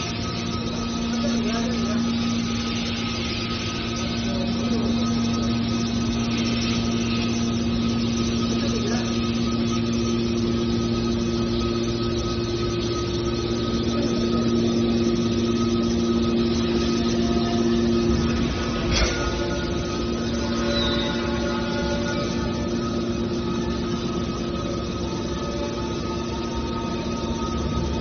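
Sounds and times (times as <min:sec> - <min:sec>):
hydraulic baler humming: 0:00.0 - 0:28.0.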